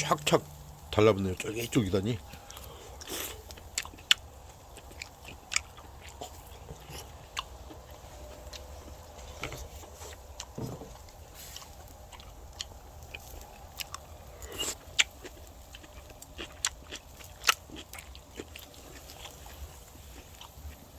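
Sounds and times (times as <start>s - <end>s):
person chewing: 1.5s - 20.9s.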